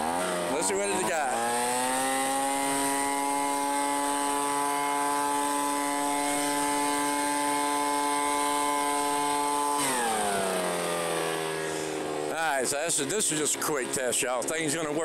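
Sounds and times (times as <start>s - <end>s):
gas blower engine running: 0.0s - 15.0s.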